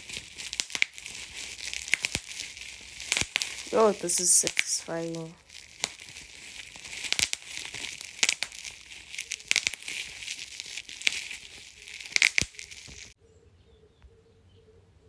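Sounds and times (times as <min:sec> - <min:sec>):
packaging crinkling and tearing: 0:00.0 - 0:13.2.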